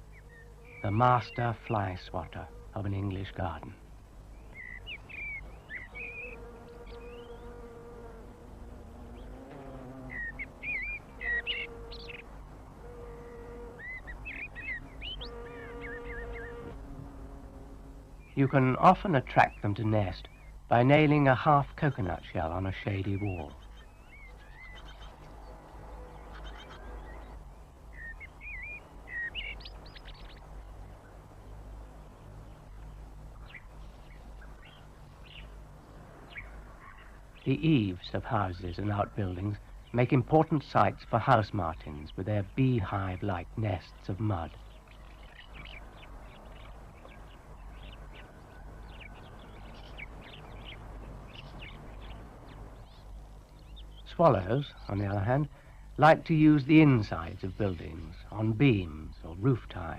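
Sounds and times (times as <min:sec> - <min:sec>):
songbird chirping and warbling: 0:00.0 - 0:17.4, 0:18.1 - 0:59.9
birds twittering: 0:00.0 - 0:59.9
steady hiss and low hum: 0:00.0 - 0:59.9.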